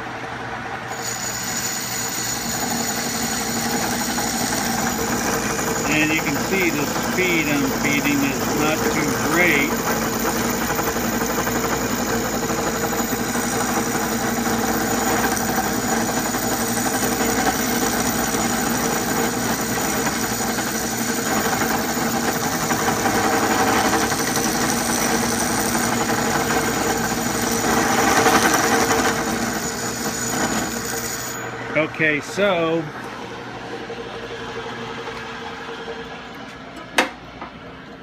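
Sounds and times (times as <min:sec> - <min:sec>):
metal lathe humming with chatter: 0:00.0 - 0:38.0.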